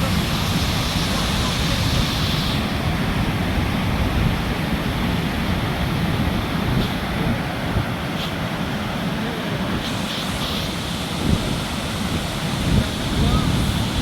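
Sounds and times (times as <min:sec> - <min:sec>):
waterfall roaring: 0:00.0 - 0:14.0
wind buffeting microphone: 0:00.0 - 0:14.0.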